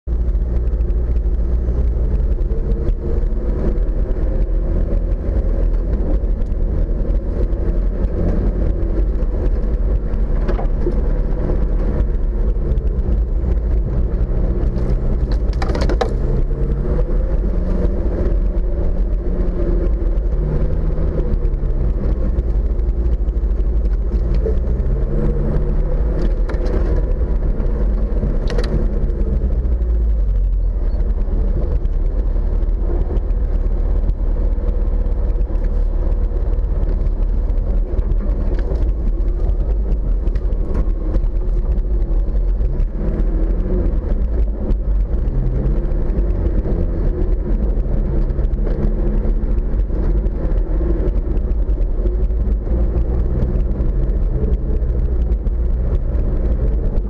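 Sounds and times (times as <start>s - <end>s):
off-road vehicle engine rumbling: 0.0s - 57.0s.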